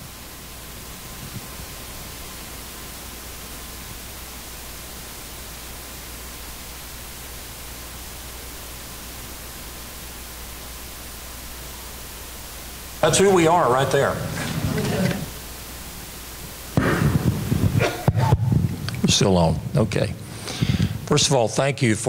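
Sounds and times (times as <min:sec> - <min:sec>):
low hum: 0:00.0 - 0:21.2
static hiss: 0:00.0 - 0:22.0.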